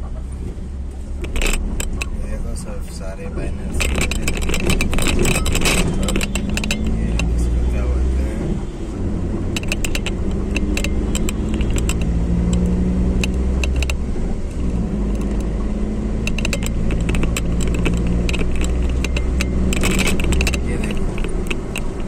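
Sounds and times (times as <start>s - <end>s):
car engine and road noise: 0.0s - 22.0s
light clicking rattles: 0.2s - 8.4s, 9.5s - 22.0s.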